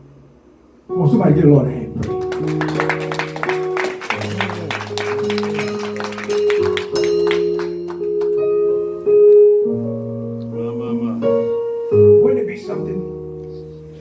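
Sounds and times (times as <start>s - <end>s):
keyboard playing slow chords: 0.0s - 14.0s.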